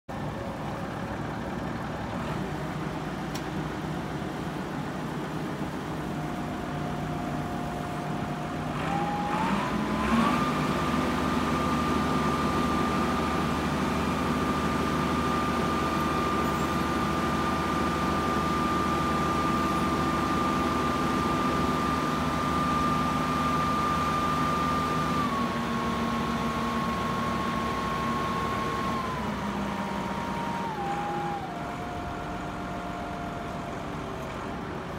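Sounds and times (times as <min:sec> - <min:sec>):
forklift diesel engine: 0:00.1 - 0:34.9
hydraulic mast whine: 0:06.4 - 0:34.6.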